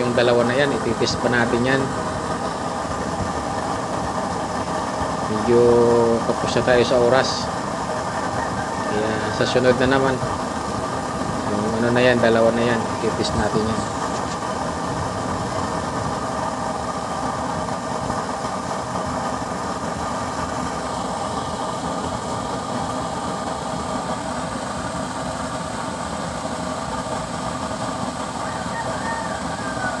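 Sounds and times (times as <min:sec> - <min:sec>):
burner flame rushing: 0:00.0 - 0:30.0
steady hum: 0:00.0 - 0:30.0.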